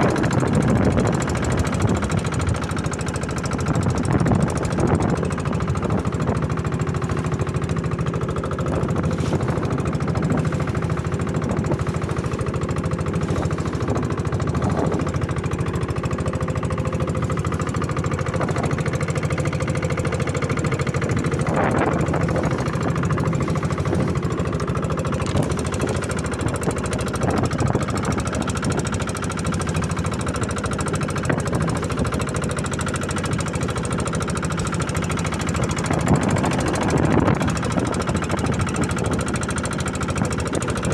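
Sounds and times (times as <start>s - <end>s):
boat engine throbbing: 0.0s - 40.9s.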